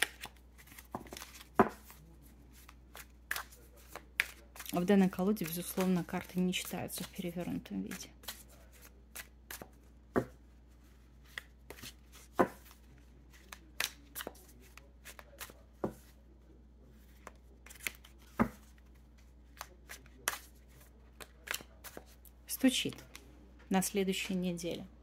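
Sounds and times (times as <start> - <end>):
cards being shuffled: 0.0 - 16.2, 17.0 - 22.3.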